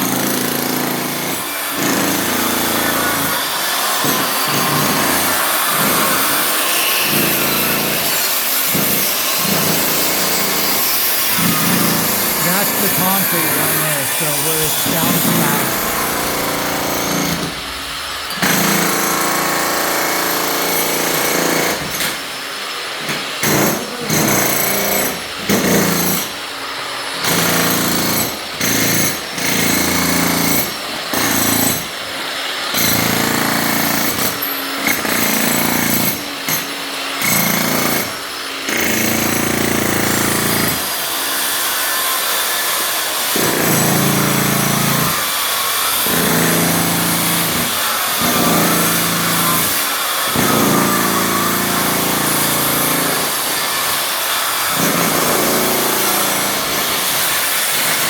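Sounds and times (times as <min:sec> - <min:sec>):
jackhammer breaking concrete: 0:00.0 - 0:58.0.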